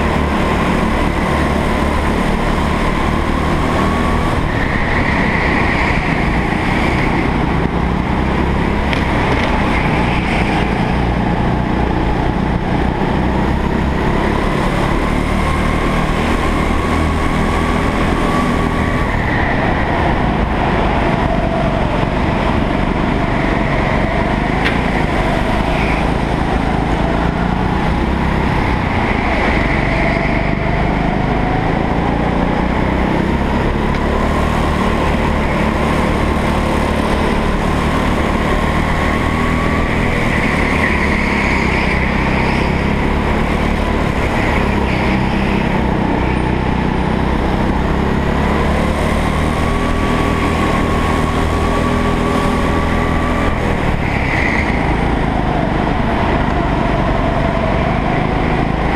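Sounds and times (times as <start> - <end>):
go-kart engine running: 0.0 - 58.9.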